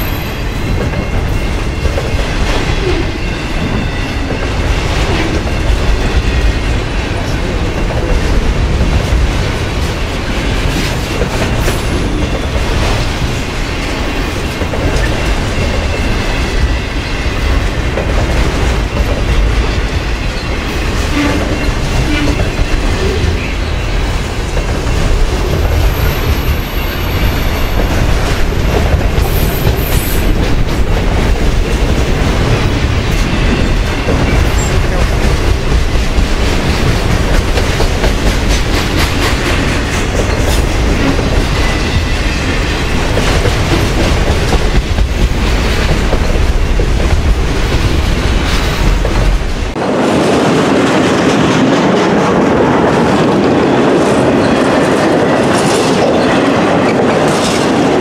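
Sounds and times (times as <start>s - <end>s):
freight train wheels rumbling on rail: 0.0s - 58.0s
wheels clacking over rail joints: 0.0s - 58.0s.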